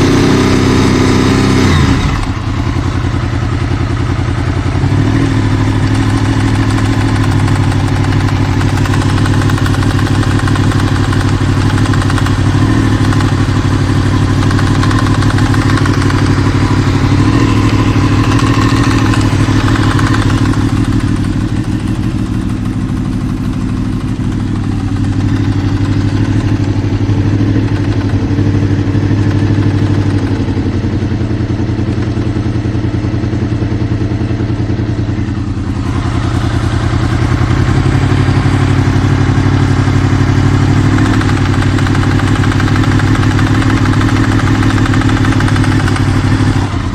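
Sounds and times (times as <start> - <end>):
engine knocking: 0.0 - 46.9
motorcycle engine running: 0.0 - 46.9.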